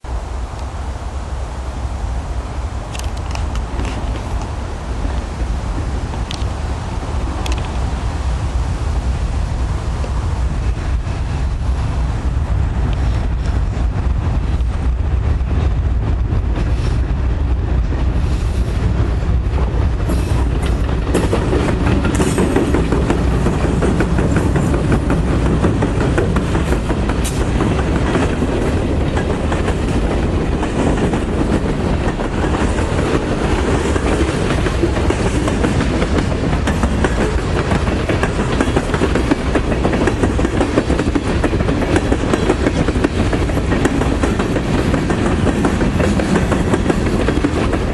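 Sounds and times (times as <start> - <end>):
train wheels clicking over rail joints: 2.9 - 6.6, 7.2 - 7.9, 12.5 - 47.9.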